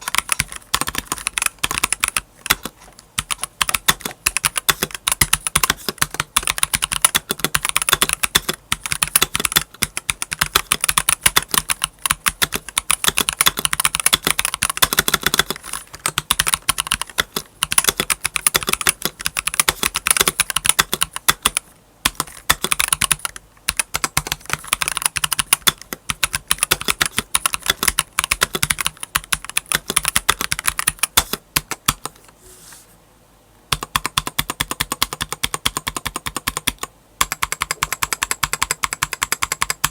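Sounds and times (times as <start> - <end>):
mechanical keyboard typing: 0.0 - 32.2, 33.7 - 39.9.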